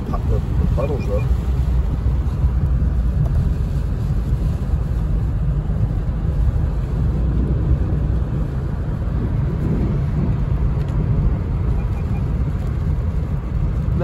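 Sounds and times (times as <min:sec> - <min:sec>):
car engine: 0:00.0 - 0:14.0
rain falling: 0:00.0 - 0:14.0
tyres on wet pavement: 0:00.0 - 0:14.0.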